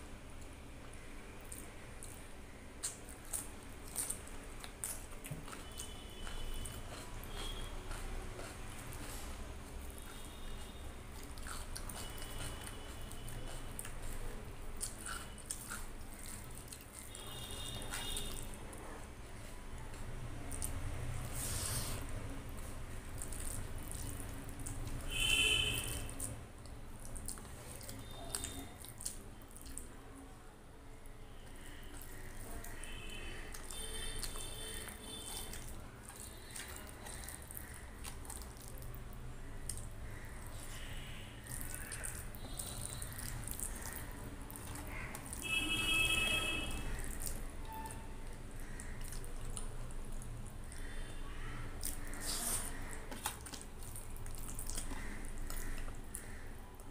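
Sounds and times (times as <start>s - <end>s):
wet squishing of food by hand: 0.0s - 56.9s
chewing: 0.4s - 30.3s, 31.4s - 56.9s.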